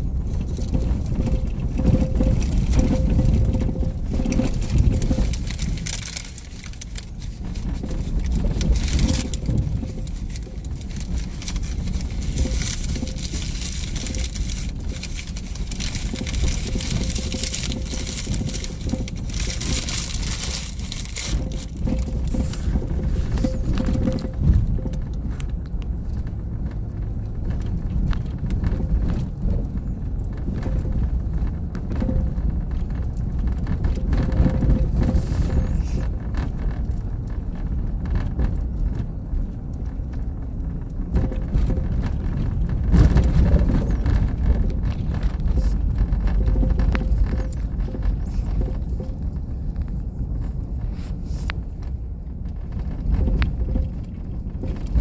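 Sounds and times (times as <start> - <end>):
knocks and rattles in van: 0.0 - 55.0
van road noise rumble: 0.0 - 55.0.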